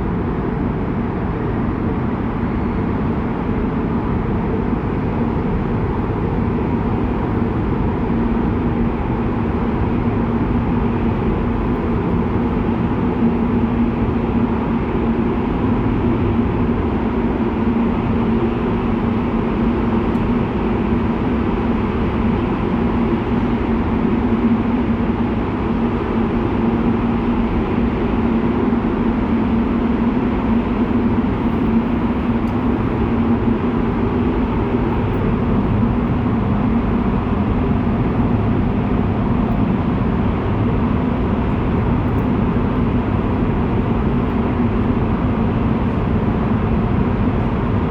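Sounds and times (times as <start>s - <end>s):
low fan hum: 0.0s - 47.9s.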